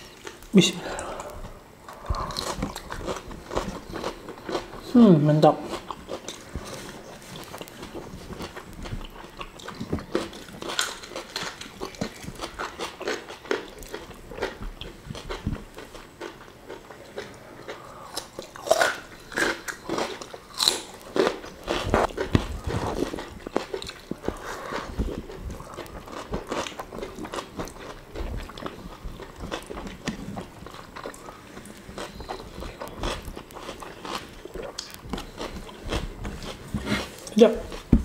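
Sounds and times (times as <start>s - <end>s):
crisp crunching and chewing: 0.0s - 5.0s, 5.6s - 37.9s.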